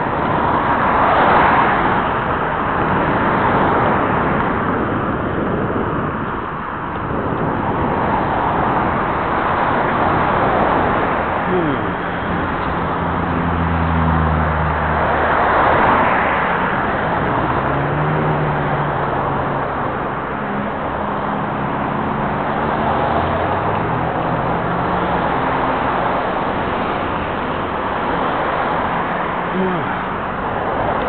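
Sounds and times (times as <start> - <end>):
engine hums of passing vehicles: 0.0 - 31.0
road traffic passing: 0.0 - 31.0.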